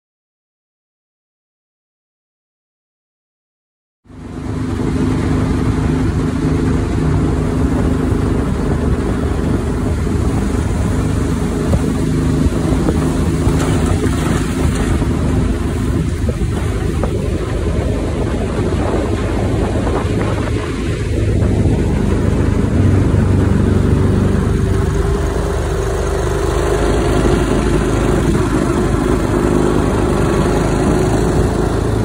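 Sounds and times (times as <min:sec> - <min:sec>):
wind: 0:04.0 - 0:32.0
boat motor running: 0:04.1 - 0:32.0
water noise: 0:04.1 - 0:32.0.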